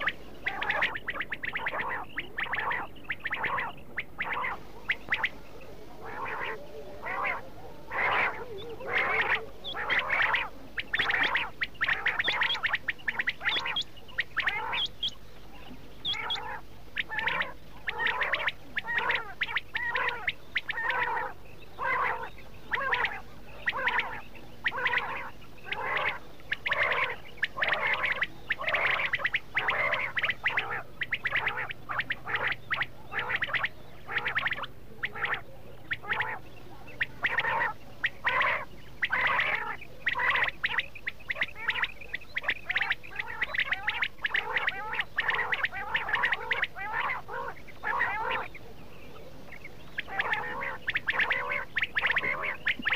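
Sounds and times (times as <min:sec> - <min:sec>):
quail calling: 0:00.0 - 0:52.9.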